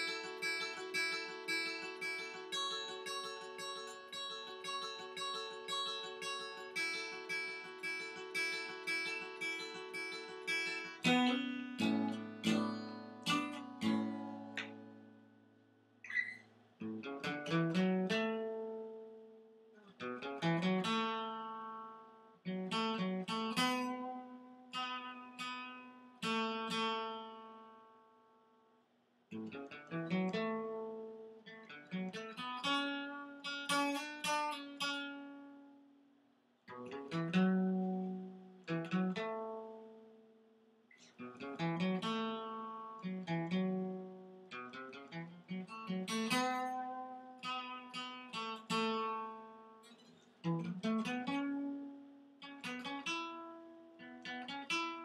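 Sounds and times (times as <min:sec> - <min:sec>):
acoustic guitar chords: 0:00.0 - 0:28.4, 0:29.3 - 0:36.1, 0:36.7 - 0:55.0.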